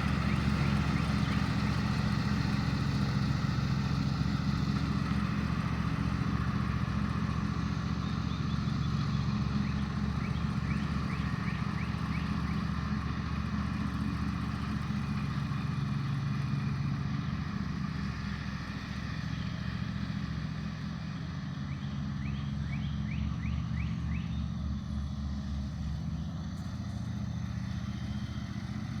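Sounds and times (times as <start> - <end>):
riding lawnmower engine running: 0.0 - 29.0.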